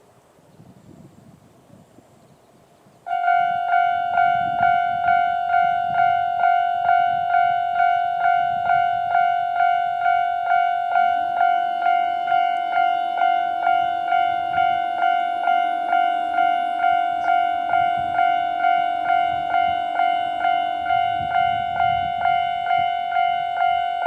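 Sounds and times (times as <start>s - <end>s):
level crossing warning bell: 3.1s - 24.0s.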